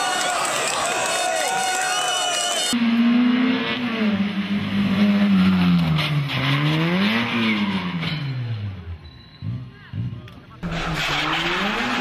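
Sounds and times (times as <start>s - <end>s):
rally car engine: 1.8s - 12.0s.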